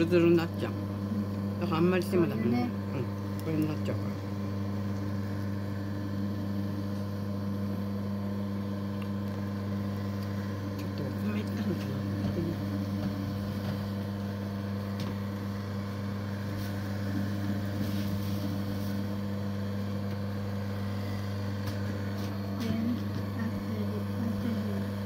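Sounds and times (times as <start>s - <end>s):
motor humming: 0.0s - 25.0s.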